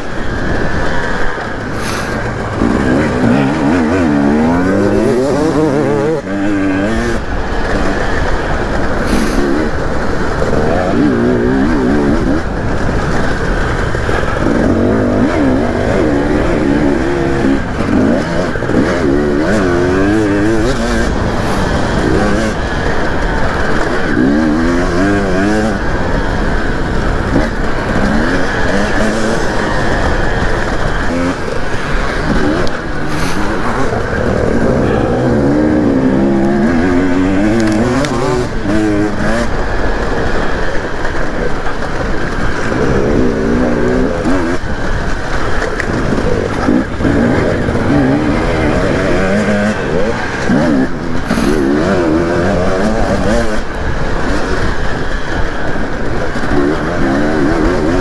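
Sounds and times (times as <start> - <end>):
dirt bike engine revving: 0.0 - 58.0
wind noise: 0.0 - 58.0.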